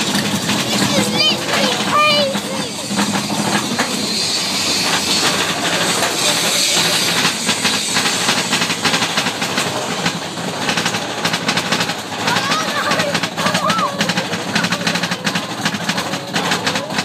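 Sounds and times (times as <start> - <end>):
roller coaster cars rushing: 0.0 - 17.0
wheels clattering on rail: 0.0 - 17.0.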